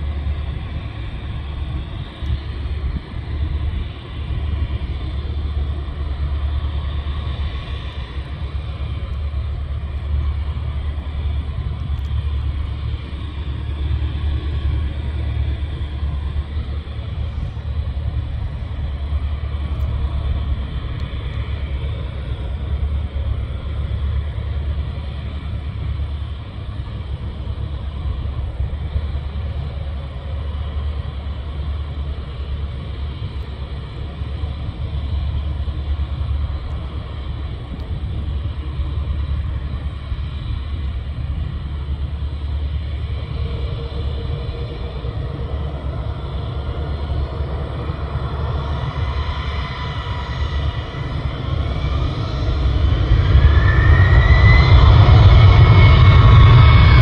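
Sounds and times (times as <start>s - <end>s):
heavy low rumble: 0.0s - 57.0s.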